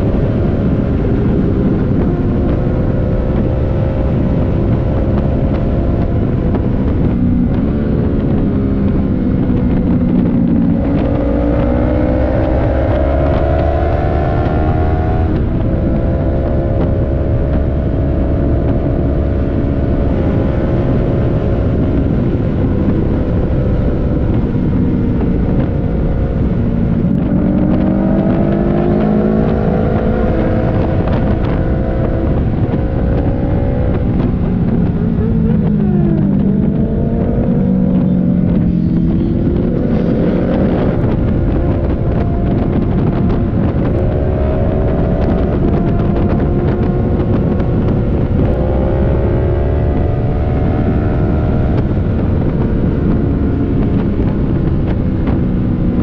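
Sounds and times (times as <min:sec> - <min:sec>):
motorcycle engine revving through gears: 0:00.0 - 0:56.0
wind rushing on microphone: 0:00.0 - 0:56.0.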